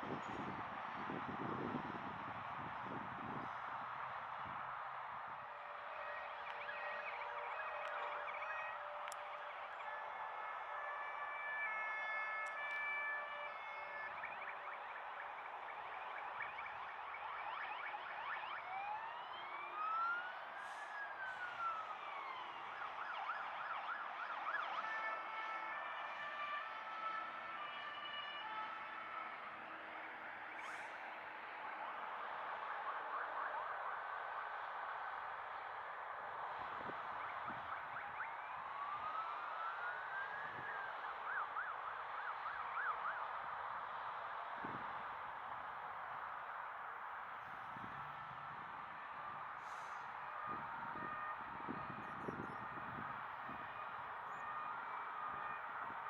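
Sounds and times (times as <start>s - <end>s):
emergency siren wail and yelp: 0.0s - 56.0s.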